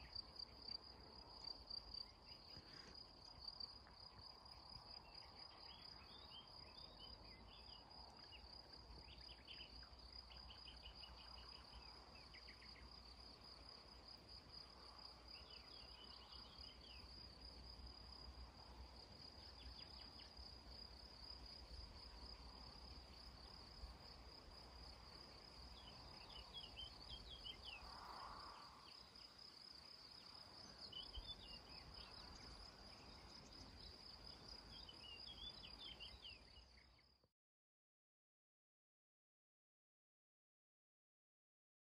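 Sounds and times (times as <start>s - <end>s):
songbird song: 0.0s - 37.3s.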